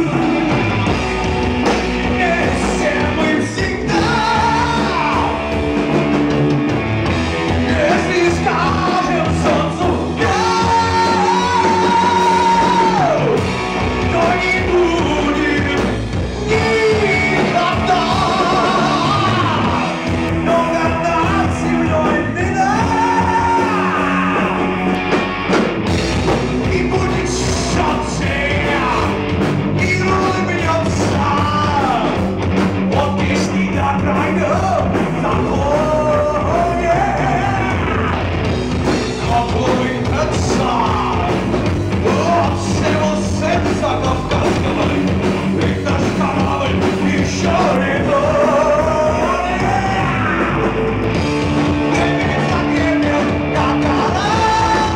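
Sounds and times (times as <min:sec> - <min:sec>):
man singing: 0:00.0 - 0:01.0, 0:01.6 - 0:05.6, 0:07.4 - 0:24.9, 0:26.5 - 0:32.3, 0:32.9 - 0:54.9
bass guitar: 0:00.0 - 0:54.9
drum kit: 0:00.0 - 0:54.9
electric guitar: 0:00.0 - 0:54.9.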